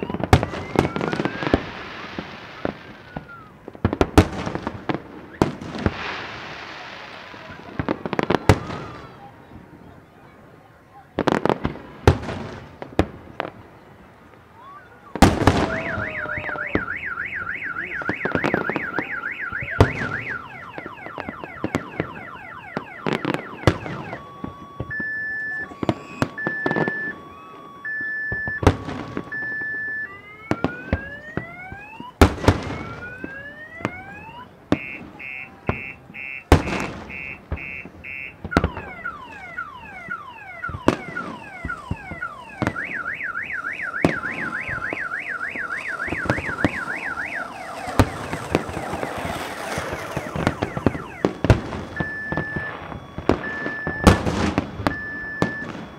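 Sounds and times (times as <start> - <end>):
car alarm siren: 0.0 - 3.8, 4.4 - 9.6, 14.4 - 55.9
fireworks bursting with bangs: 0.0 - 55.9.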